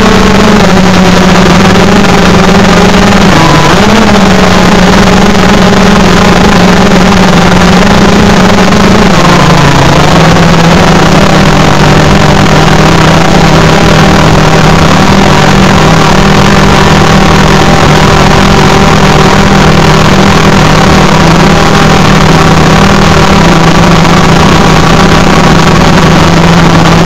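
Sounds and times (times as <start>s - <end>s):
drone propellers humming loudly: 0.0s - 27.0s.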